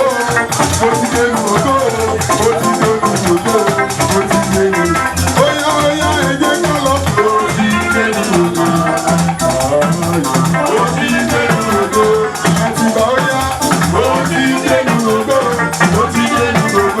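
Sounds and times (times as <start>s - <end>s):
bass guitar: 0.0s - 17.0s
guitar: 0.0s - 17.0s
shakers rhythm: 0.0s - 17.0s.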